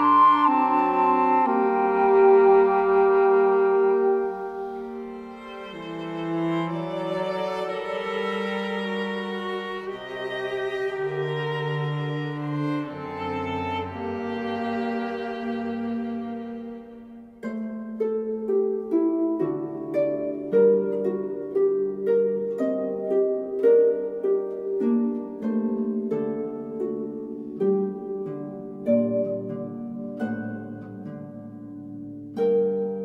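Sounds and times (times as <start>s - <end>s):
plucked string melody: 0.0s - 33.0s.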